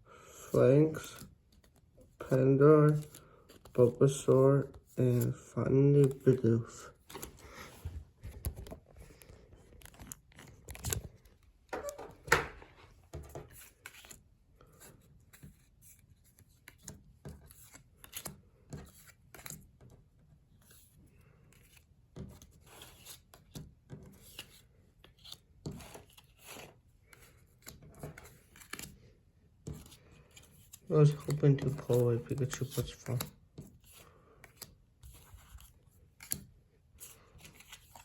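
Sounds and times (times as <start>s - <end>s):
trading cards rustling and tapping: 0.6s - 29.0s, 29.6s - 38.0s.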